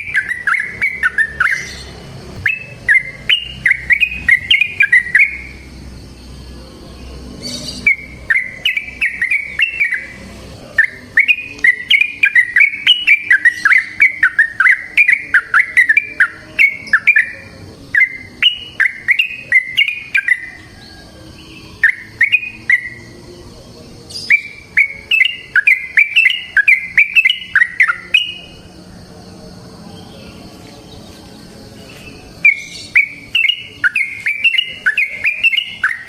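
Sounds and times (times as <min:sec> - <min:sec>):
bulbul chirping song: 0:00.0 - 0:36.0.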